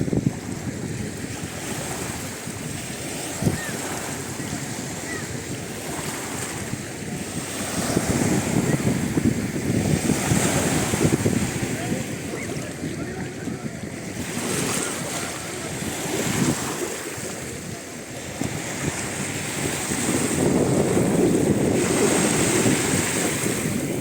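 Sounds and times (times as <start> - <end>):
surf and sea: 0.0 - 24.0
wind buffeting microphone: 0.0 - 24.0.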